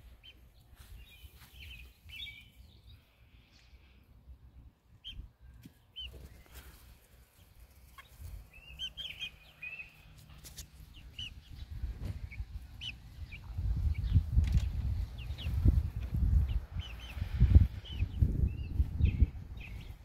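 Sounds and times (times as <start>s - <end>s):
young chickens peeping: 0.0s - 20.0s.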